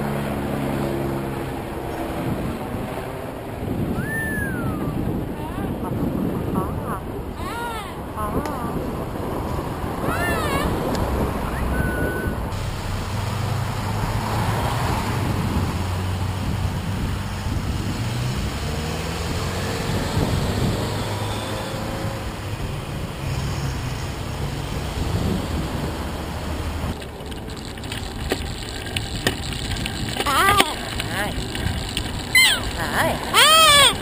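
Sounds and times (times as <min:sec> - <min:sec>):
wind on microphone: 0:01.5 - 0:27.1, 0:27.8 - 0:34.0.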